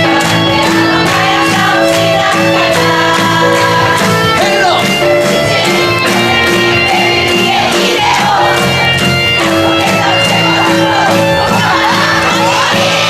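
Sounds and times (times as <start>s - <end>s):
acoustic band with guitar: 0.0s - 13.0s.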